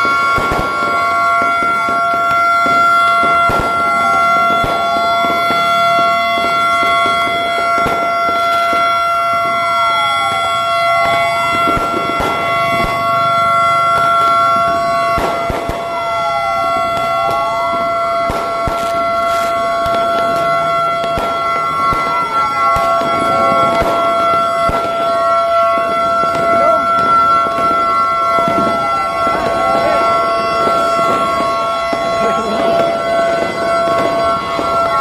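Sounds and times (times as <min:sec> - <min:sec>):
fire truck sirens: 0:00.0 - 0:35.0
sharp bangs: 0:00.0 - 0:35.0
siren wailing down and up: 0:00.0 - 0:35.0.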